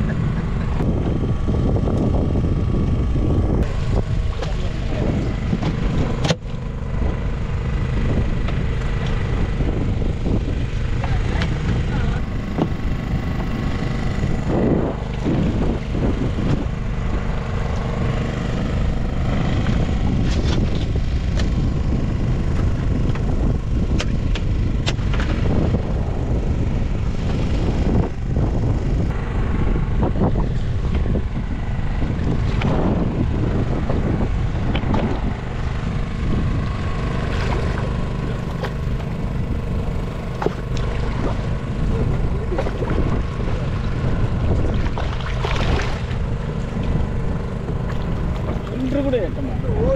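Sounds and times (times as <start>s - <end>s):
boat engine running: 0.0s - 49.9s.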